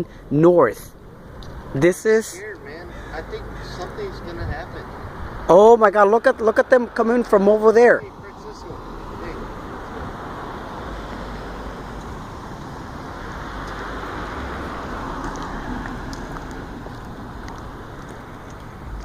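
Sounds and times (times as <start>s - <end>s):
outdoor traffic rumble: 0.0s - 19.0s.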